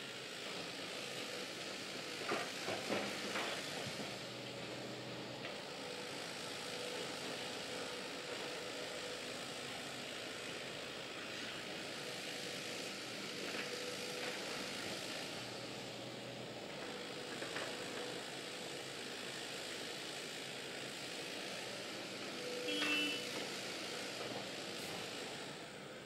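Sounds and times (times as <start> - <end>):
distant excavator engine: 0.1 - 26.0.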